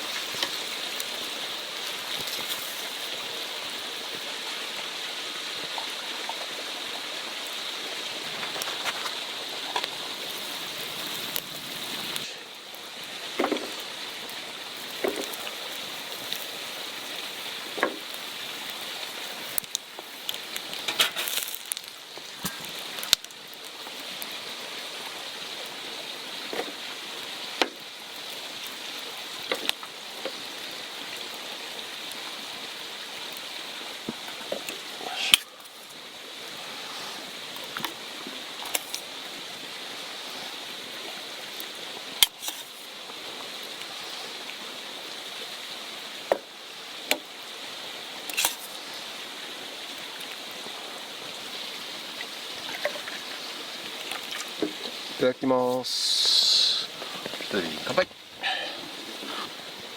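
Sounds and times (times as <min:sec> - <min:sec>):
food sizzling in a pan: 0:00.0 - 0:59.9.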